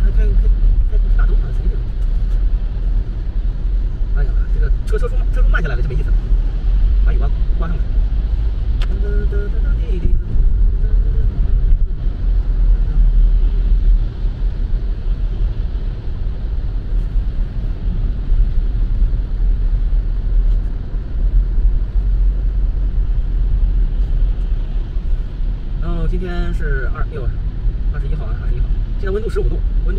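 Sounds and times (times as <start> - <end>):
low car cabin rumble: 0.0 - 29.9
tyres on wet road: 0.0 - 29.9.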